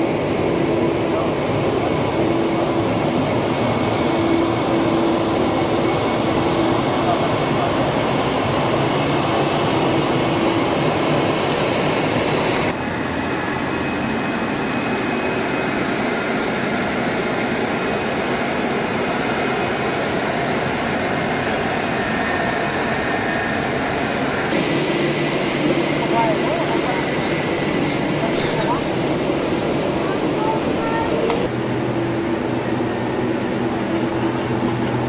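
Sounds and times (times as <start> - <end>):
jet engines running: 0.0 - 35.0.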